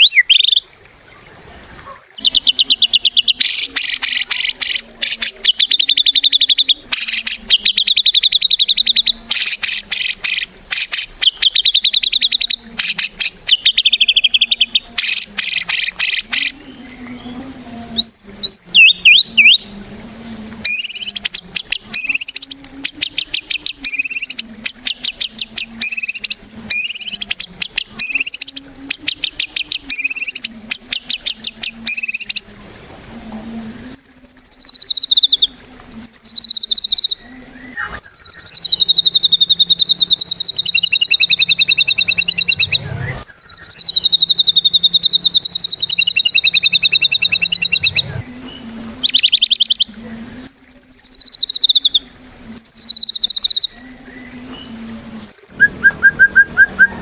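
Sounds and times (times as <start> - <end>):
bird singing buzzing trills: 0.0 - 57.0.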